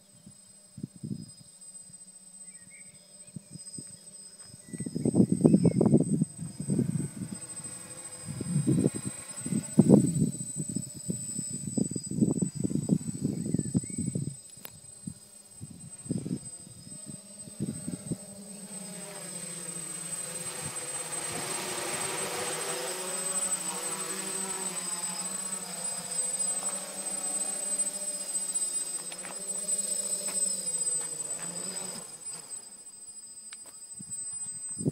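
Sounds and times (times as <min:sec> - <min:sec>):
drone motors buzzing: 0:00.1 - 0:34.9.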